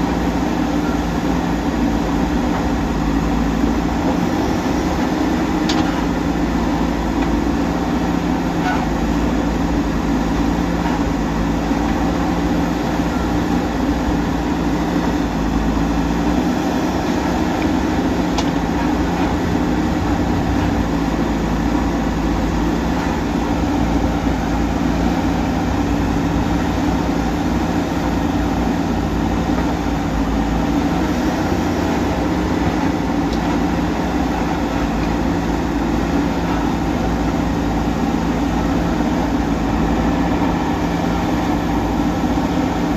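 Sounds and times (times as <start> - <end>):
heavy diesel engine droning: 0.0 - 42.9.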